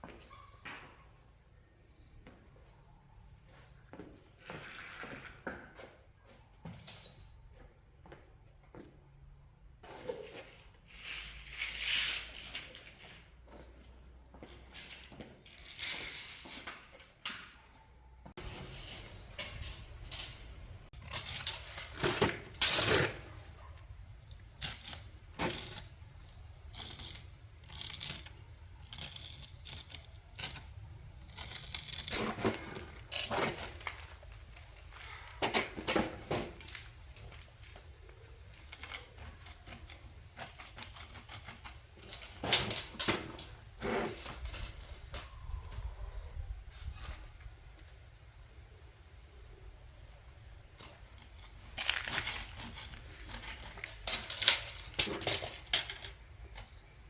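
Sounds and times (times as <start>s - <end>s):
rustles and scrapes: 0.0s - 7.8s, 9.8s - 57.0s.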